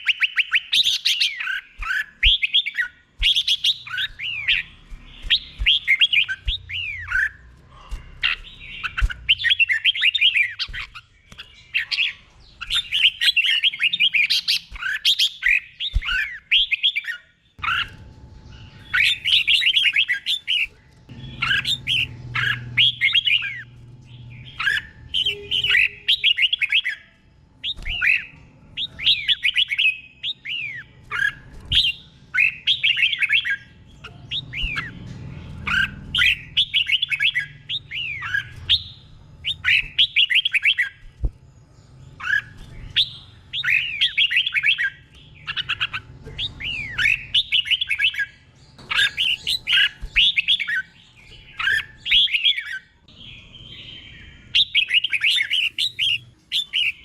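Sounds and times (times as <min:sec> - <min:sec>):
bulbul singing: 0:00.0 - 0:57.0.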